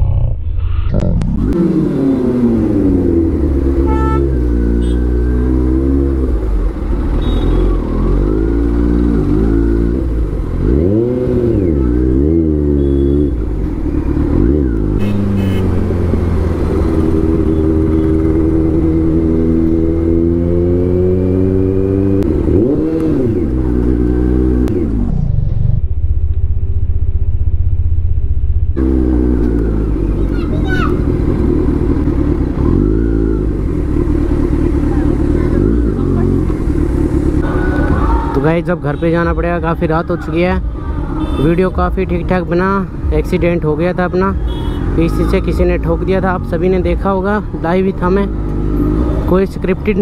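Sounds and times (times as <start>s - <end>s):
motorcycle engine revving: 0.0s - 39.0s, 40.7s - 50.0s.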